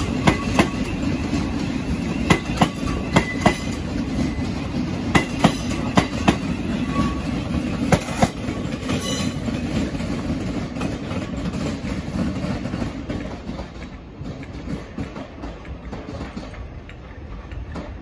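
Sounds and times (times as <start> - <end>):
train low rumble: 0.0 - 18.0
train wheels clacking over rail joints: 0.0 - 18.0.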